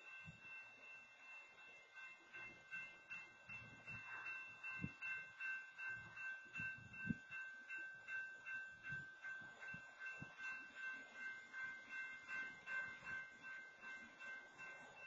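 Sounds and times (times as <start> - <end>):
railroad crossing bell ringing: 0.0 - 15.0.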